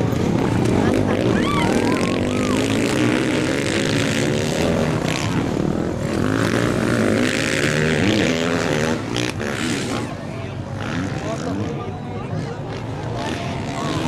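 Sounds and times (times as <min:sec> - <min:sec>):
motocross bikes revving past: 0:00.0 - 0:14.0.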